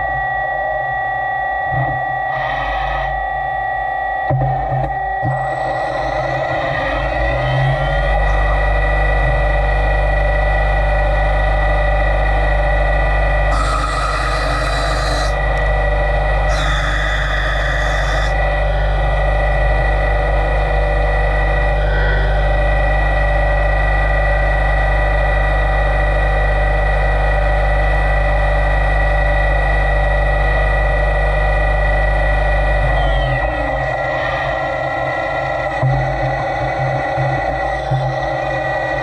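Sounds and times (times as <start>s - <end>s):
lathe machine hum and whine: 0.0s - 39.0s.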